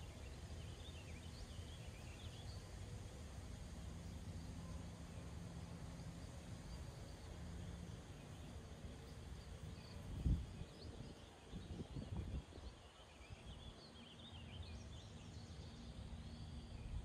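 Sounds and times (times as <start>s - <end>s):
low outdoor rumble: 0.0s - 17.0s
small birds chirping and twittering: 0.0s - 17.0s.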